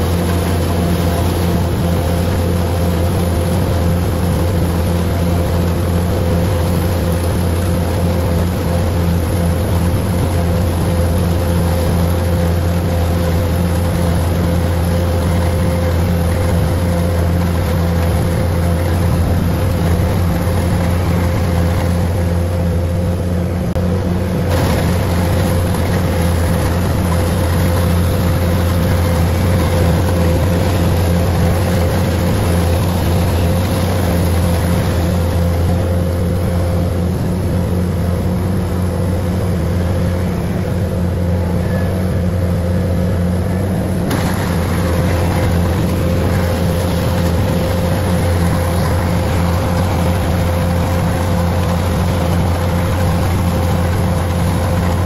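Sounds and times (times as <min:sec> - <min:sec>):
combine harvester engine droning: 0:00.0 - 0:55.0
machinery whine: 0:00.0 - 0:55.0.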